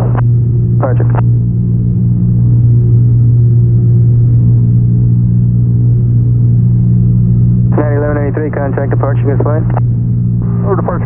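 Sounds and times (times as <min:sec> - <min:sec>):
aircraft engine and propeller droning: 0:00.0 - 0:11.0.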